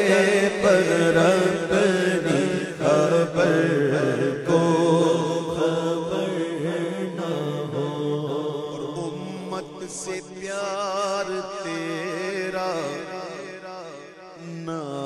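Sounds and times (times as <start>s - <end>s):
wordless sung melody: 0.0s - 15.0s.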